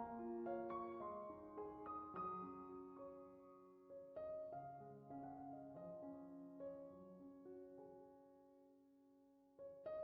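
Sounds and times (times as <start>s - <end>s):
slow soft piano: 0.0s - 10.0s.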